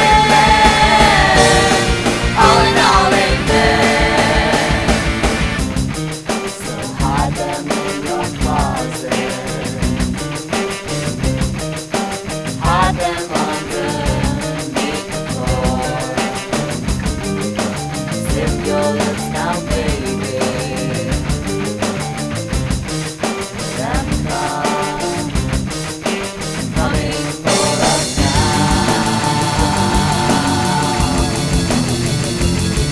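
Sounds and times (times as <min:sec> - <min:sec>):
instrumental rock music: 0:00.0 - 0:32.9.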